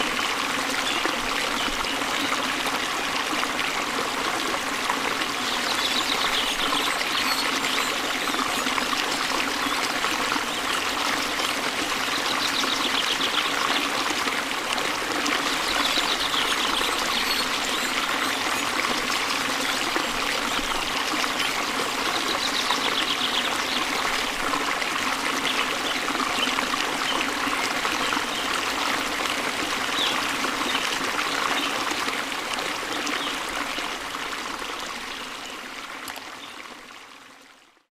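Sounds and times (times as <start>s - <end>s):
small waterfall rushing: 0.0s - 37.9s.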